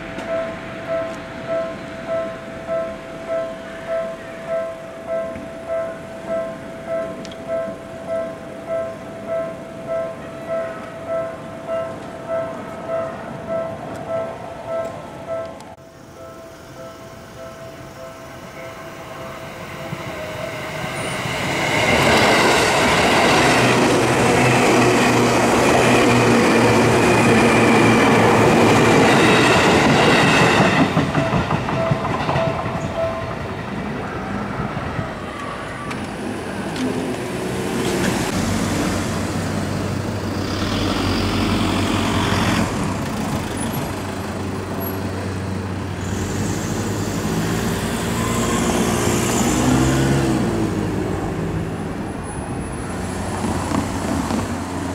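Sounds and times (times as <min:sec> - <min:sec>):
train passing on tracks: 0:00.0 - 0:54.9.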